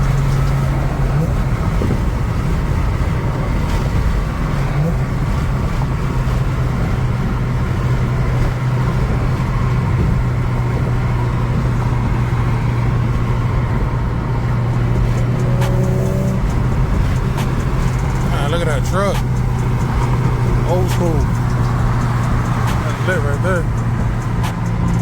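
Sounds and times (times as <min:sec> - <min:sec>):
car engine and road drone: 0:00.0 - 0:25.0.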